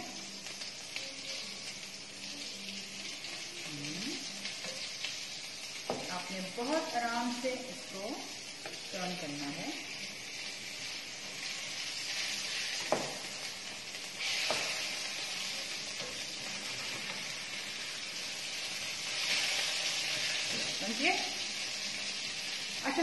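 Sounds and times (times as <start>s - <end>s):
fish fillet sizzling in pan: 0.0s - 23.0s.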